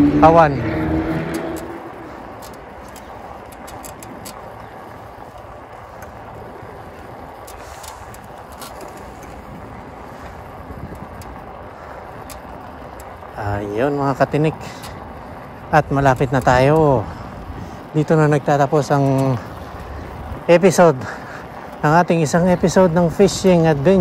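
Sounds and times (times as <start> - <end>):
bicycle tyre noise on asphalt: 0.0 - 24.0
light bicycle clicks: 0.2 - 24.0.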